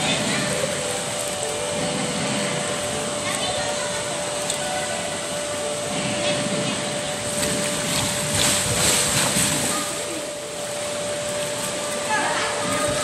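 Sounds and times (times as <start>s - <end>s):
faint voices: 0.0s - 13.0s
fan blowing with hum: 0.0s - 13.0s.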